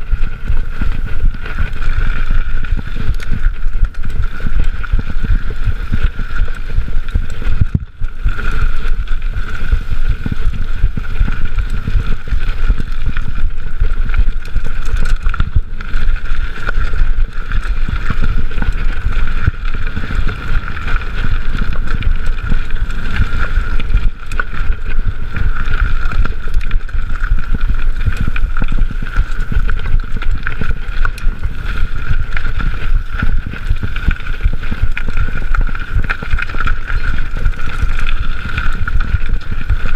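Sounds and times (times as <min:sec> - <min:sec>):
bike rattling over bumps: 0:00.0 - 0:39.9
wind buffeting on microphone: 0:00.0 - 0:39.9.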